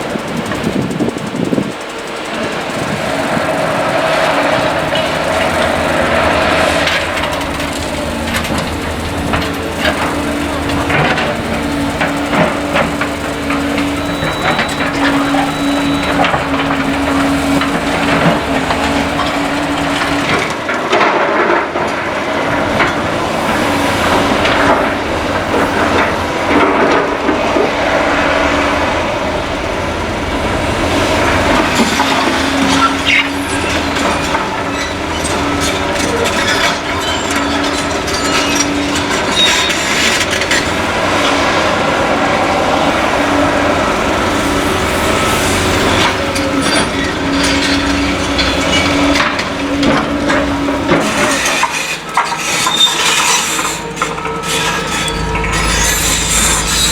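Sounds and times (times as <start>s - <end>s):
diesel engines running: 0.0s - 56.9s
debris clattering and crunching: 3.0s - 28.6s, 30.6s - 56.9s.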